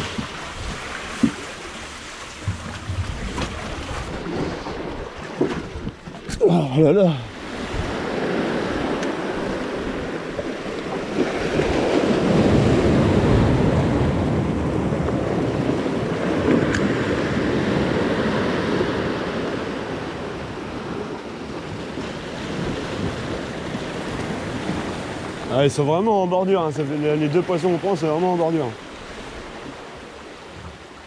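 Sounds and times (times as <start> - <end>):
sea waves breaking over rocks: 0.0 - 31.0.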